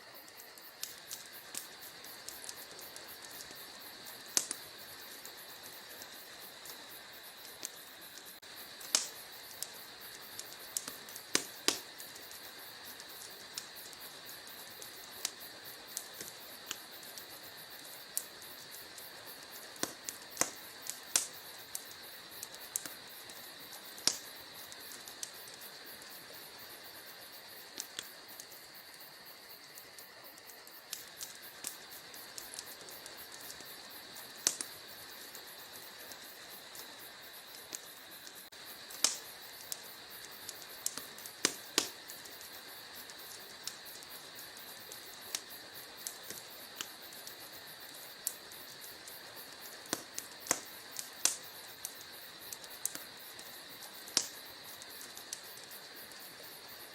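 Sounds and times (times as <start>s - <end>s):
fire hissing: 0.0s - 56.9s
wood fire crackling and popping: 0.0s - 56.9s.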